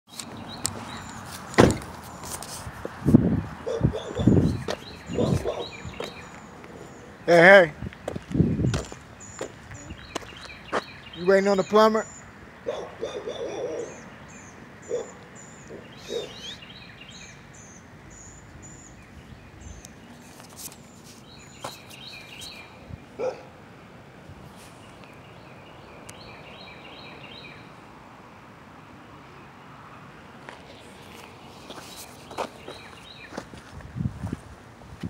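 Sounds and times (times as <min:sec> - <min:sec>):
small birds chirping: 0:00.1 - 0:02.5, 0:03.7 - 0:23.4, 0:24.5 - 0:27.8, 0:30.6 - 0:33.5
outdoor background noise: 0:00.1 - 0:35.0.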